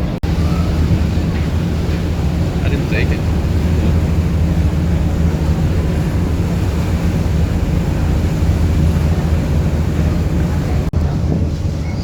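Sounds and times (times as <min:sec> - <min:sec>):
ferry engines droning: 0:00.0 - 0:12.0.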